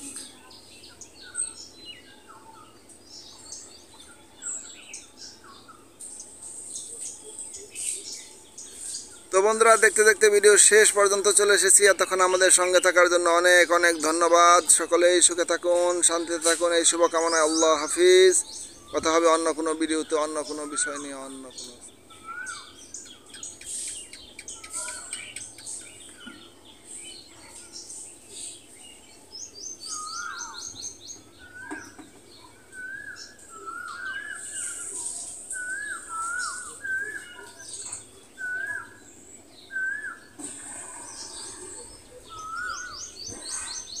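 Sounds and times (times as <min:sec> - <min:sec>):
birds calling: 0:00.0 - 0:44.0
high bird chirps: 0:00.0 - 0:44.0.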